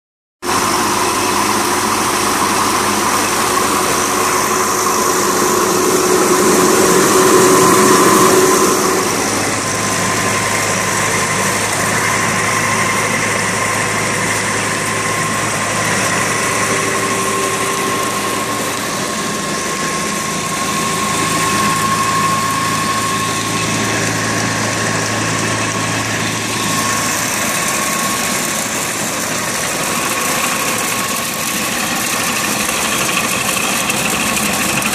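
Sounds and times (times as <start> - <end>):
mill grinding soybeans: 0.4 - 34.9
tractor engine running: 0.4 - 34.9.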